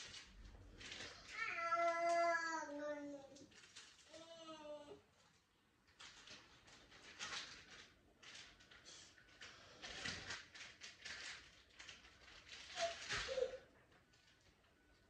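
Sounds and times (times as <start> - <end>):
rustling of hair and clothing: 0.0 - 15.0.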